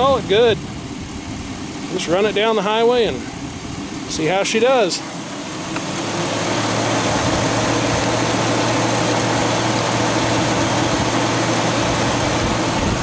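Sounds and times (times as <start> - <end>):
air conditioning compressor rushing: 0.0 - 13.0
pickup engine idling: 0.0 - 13.0.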